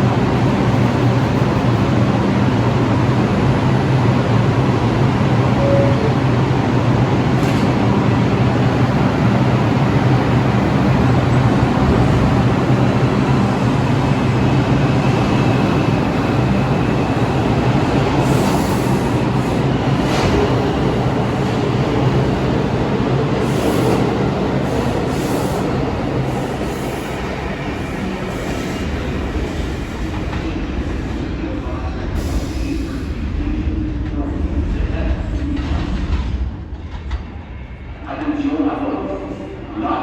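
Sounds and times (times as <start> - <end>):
subway train rumble and wheel noise: 0.0 - 40.0.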